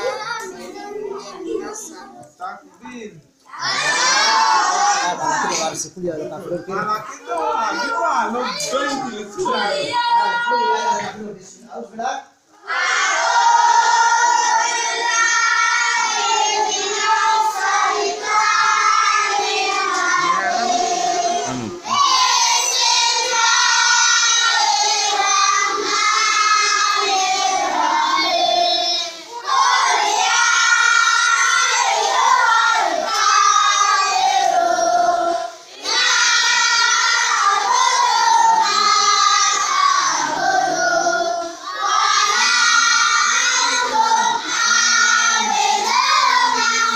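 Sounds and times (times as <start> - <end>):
children chanting in unison: 0.0 - 2.1, 3.5 - 5.8, 7.3 - 11.2, 12.5 - 46.9.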